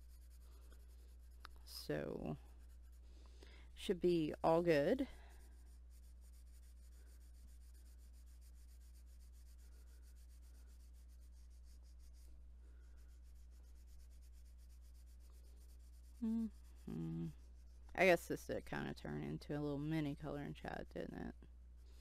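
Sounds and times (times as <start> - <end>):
crayon scribbling on paper: 0.0 - 3.1, 4.1 - 18.9.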